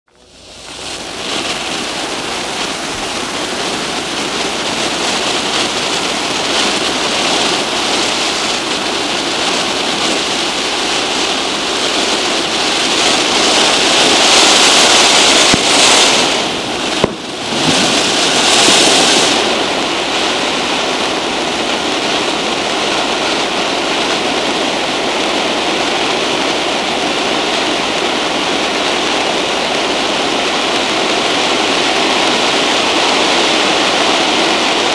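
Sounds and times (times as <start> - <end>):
ground fountain fireworks hissing: 0.1 - 34.9.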